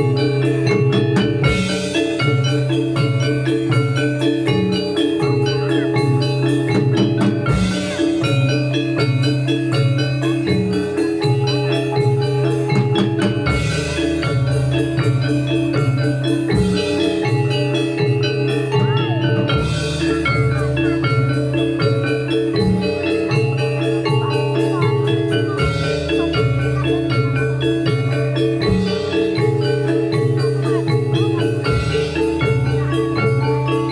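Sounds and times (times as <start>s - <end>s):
gamelan music through speakers: 0.0s - 33.9s.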